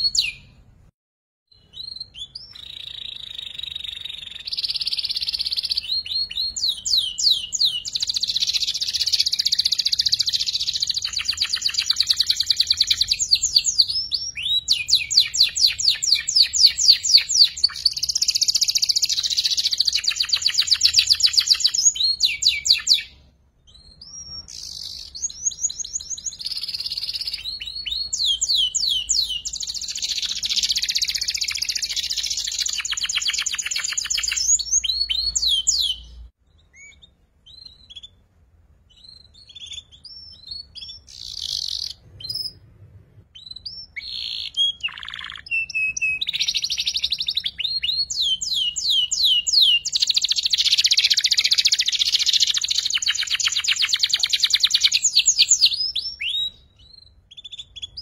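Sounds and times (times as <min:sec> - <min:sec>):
canary short chirps: 0:01.5 - 0:38.2, 0:38.9 - 0:42.6, 0:43.3 - 0:58.0
canary trilling: 0:01.5 - 0:38.2, 0:38.9 - 0:42.6, 0:43.3 - 0:58.0.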